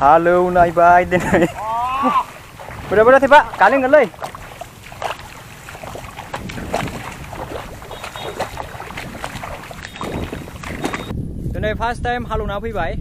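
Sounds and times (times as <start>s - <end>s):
wind rumble on microphone: 0.0s - 13.0s
footsteps on mud: 0.5s - 11.1s.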